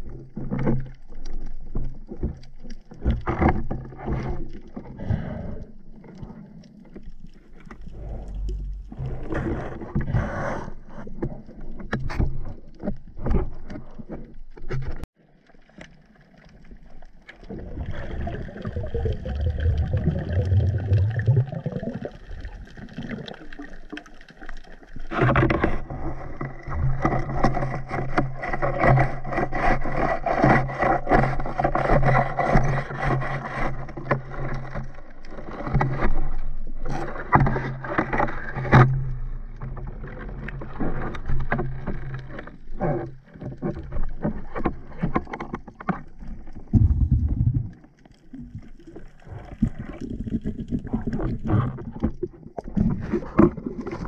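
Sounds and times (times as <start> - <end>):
low underwater hum: 0.0 - 54.0
underwater clicking and scraping: 0.0 - 54.0.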